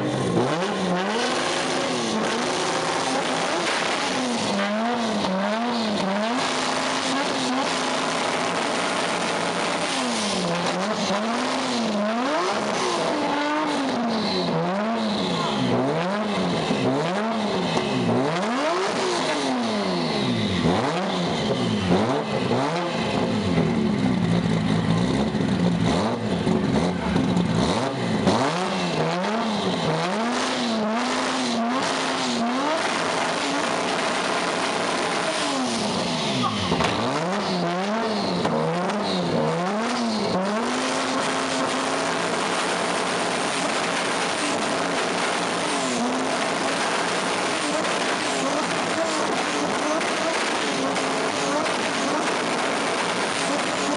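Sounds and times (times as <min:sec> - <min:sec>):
car engine revving: 0:00.0 - 0:53.9
heavy noise: 0:00.0 - 0:53.9.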